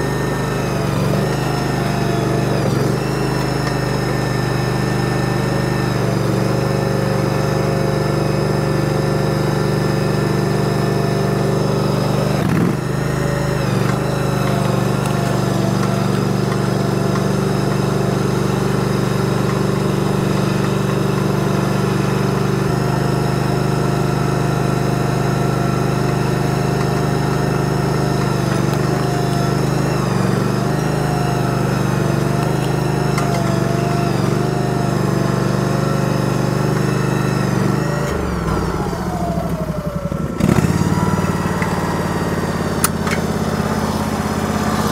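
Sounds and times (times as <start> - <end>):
machine engine running: 0.0 - 44.9.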